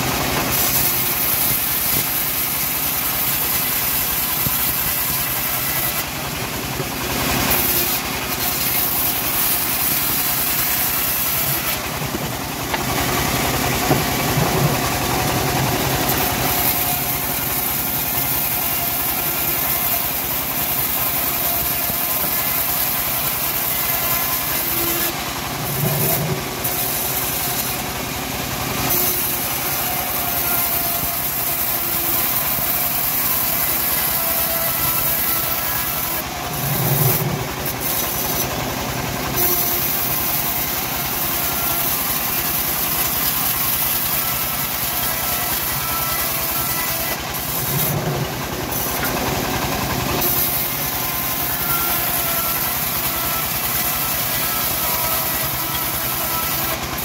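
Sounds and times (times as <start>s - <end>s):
band sawmill cutting wood: 0.0s - 57.0s.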